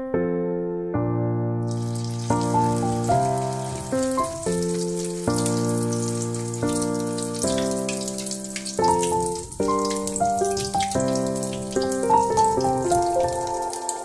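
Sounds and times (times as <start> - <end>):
piano music: 0.0 - 14.0
meat sizzling in oil: 1.7 - 14.0.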